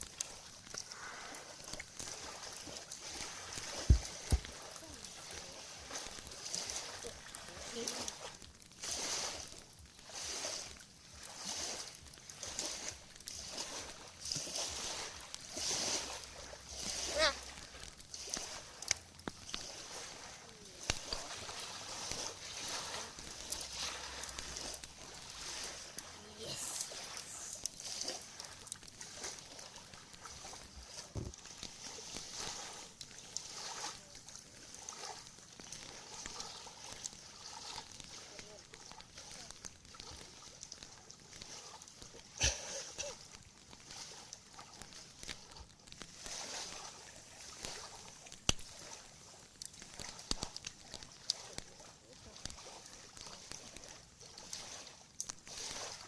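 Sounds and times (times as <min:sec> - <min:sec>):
campfire crackling: 0:00.0 - 0:56.0
lake waves lapping shore: 0:00.0 - 0:56.0
soft steady hiss: 0:00.0 - 0:56.0.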